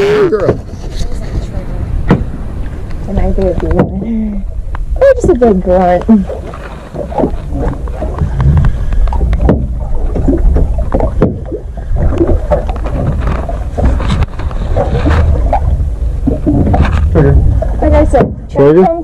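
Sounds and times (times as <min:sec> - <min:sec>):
water slapping boat hull: 0:00.0 - 0:19.0
wind buffeting microphone: 0:00.0 - 0:19.0.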